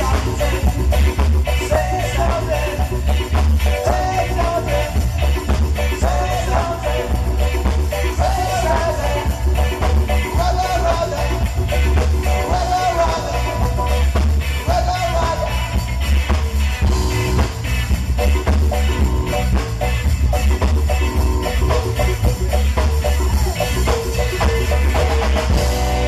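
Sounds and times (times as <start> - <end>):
live band playing amplified music: 0.0 - 26.0.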